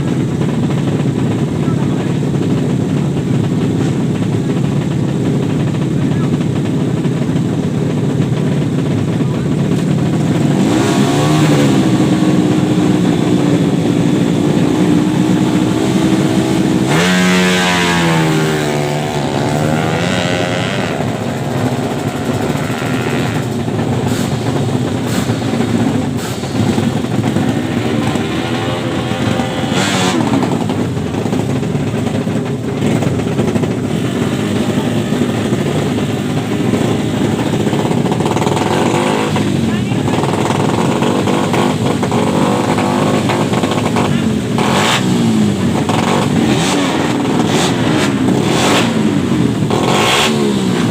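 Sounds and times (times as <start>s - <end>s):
louder motorcycle with falling pitch: 0.0s - 50.9s
motorcycle engine at high revs: 0.0s - 50.9s.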